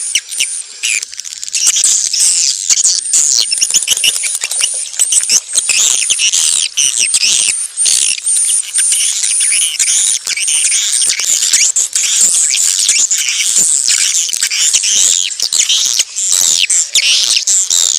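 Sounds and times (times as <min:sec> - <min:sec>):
swiftlet chirping chorus: 0:00.0 - 0:17.9.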